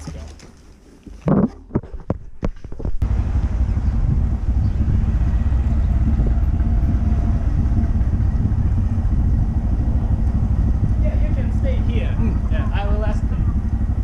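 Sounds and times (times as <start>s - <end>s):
motorcycle engine rumbling: 0.0s - 14.0s
road and wind noise: 1.1s - 14.0s.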